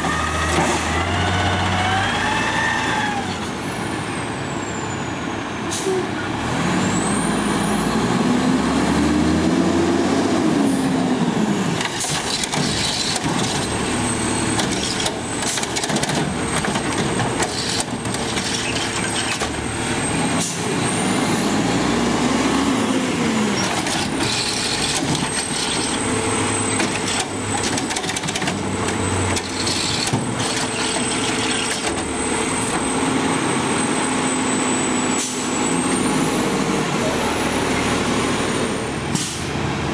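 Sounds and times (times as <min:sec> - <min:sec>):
garbage truck engine revving: 0:00.0 - 0:03.3, 0:06.3 - 0:39.9.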